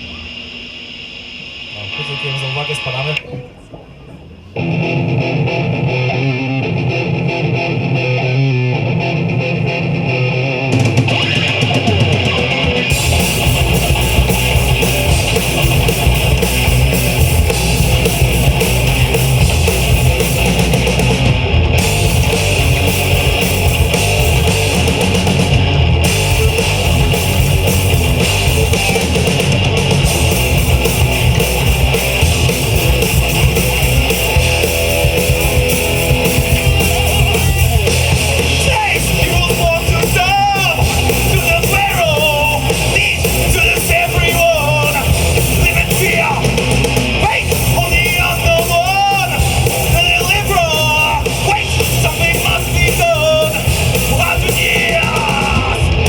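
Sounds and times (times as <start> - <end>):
distorted electric guitar riff: 0.0 - 56.0
rock band playing: 4.6 - 56.0
drums and cymbals: 10.7 - 56.0.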